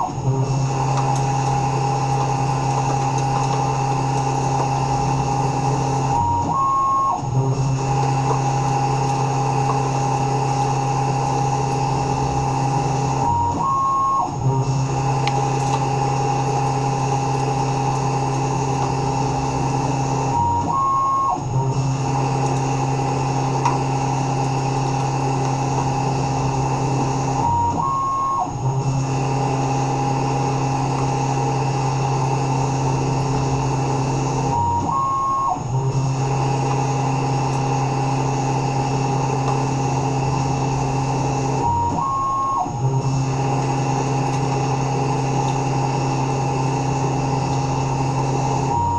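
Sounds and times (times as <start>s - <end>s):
milling machine spindle hum: 0.0s - 48.9s.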